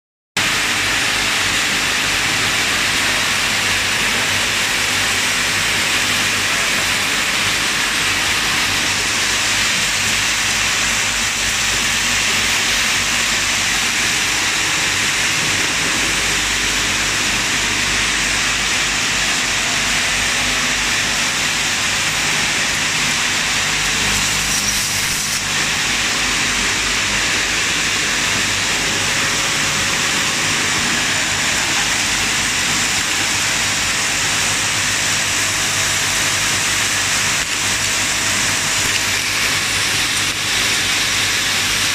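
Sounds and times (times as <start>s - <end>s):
machine rattle and hiss: 0.4s - 41.9s.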